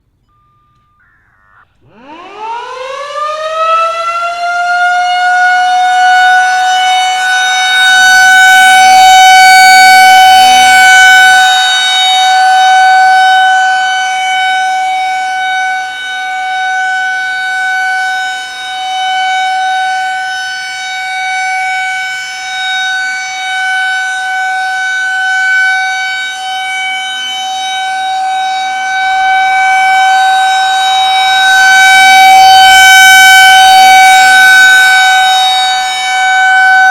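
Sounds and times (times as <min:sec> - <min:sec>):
warning siren steady tone: 0:00.0 - 0:36.9.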